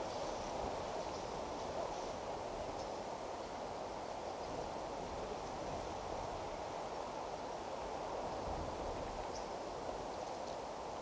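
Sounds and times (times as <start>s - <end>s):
outdoor ambient hiss: 0.0s - 11.0s.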